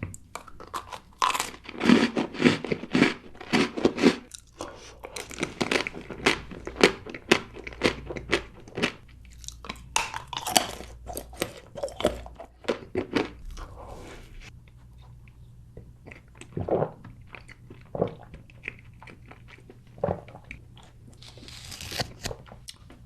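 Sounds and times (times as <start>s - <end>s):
crunchy food being chewed: 0.0s - 23.0s.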